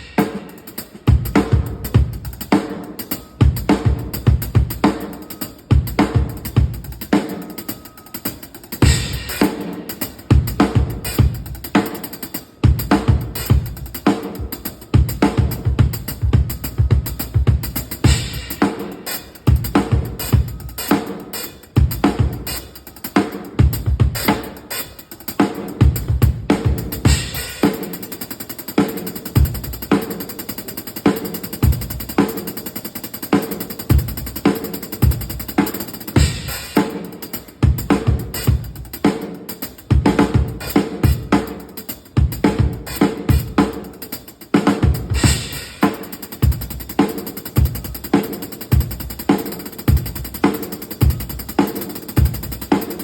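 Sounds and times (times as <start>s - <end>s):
drum kit playing: 0.0s - 53.0s
hi-hat ticks: 0.0s - 53.0s.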